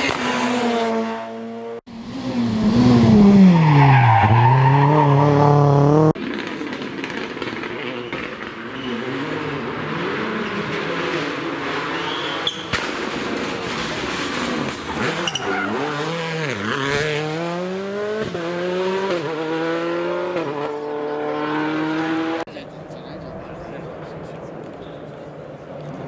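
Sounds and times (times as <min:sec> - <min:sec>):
rally car engine: 0:00.0 - 0:26.0.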